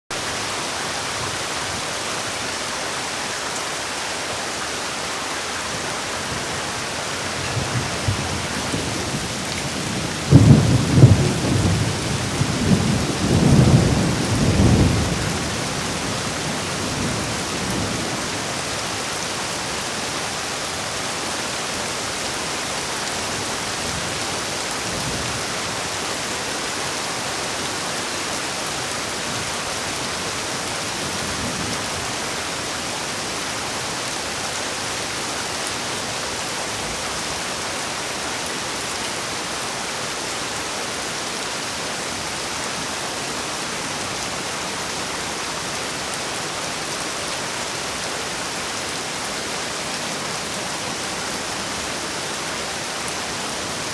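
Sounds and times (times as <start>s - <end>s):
heavy rain: 0.1s - 53.9s.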